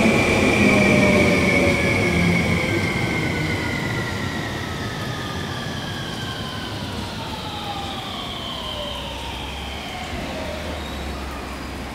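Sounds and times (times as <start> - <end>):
electric train motors whining: 0.0 - 11.9.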